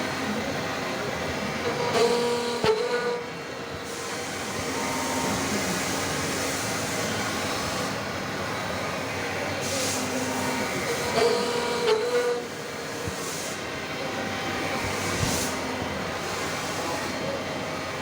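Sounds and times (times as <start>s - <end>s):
face mill cutting steel: 1.6s - 18.0s.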